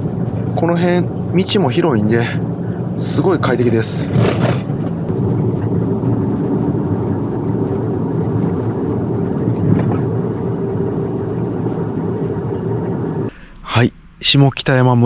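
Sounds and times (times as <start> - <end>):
road noise hum: 0.0 - 15.0.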